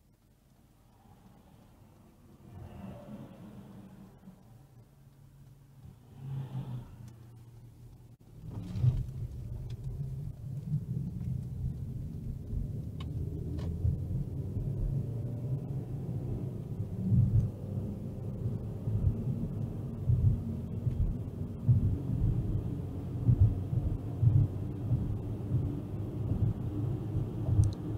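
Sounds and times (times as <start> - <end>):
engine and road noise rumble: 0.0 - 27.9
car engine accelerating: 1.0 - 27.9.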